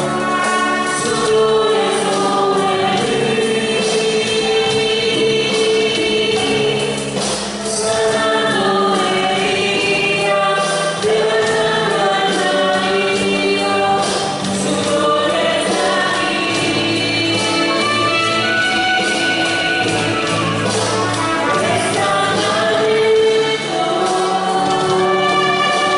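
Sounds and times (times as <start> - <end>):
group singing a hymn: 0.0 - 25.9.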